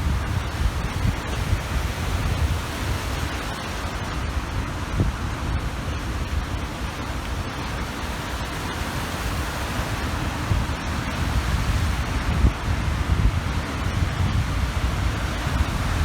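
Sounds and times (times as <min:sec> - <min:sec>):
waves washing onto shore: 0:00.0 - 0:16.0
wind rumbling on microphone: 0:00.0 - 0:16.0.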